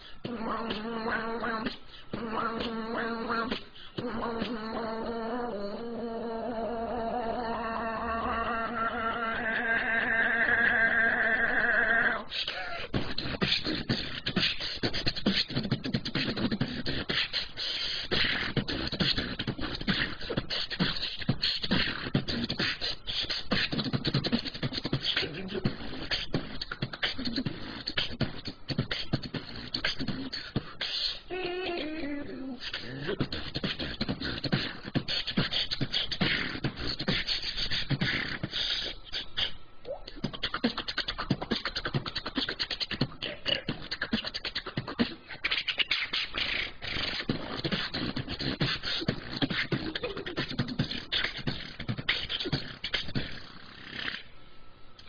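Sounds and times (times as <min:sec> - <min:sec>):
woman beatboxing: 0:00.0 - 0:54.3.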